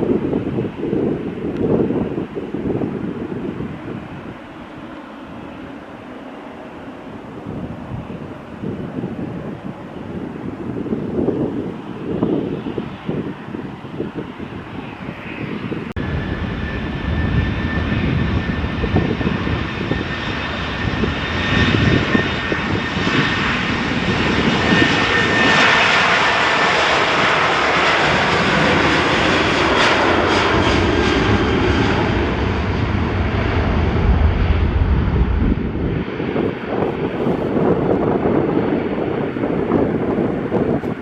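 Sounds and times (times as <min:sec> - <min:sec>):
airliner engines roaring: 0:00.0 - 0:41.0.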